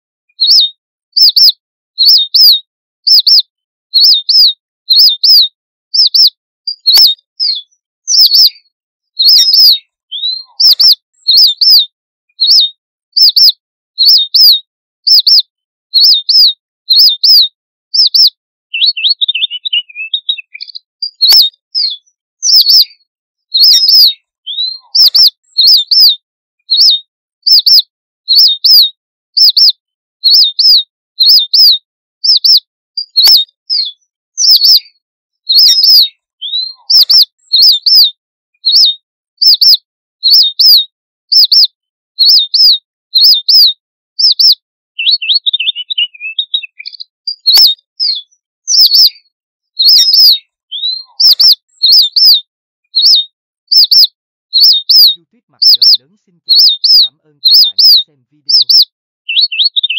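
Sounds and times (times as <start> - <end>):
finch chirping: 0.3 - 59.9.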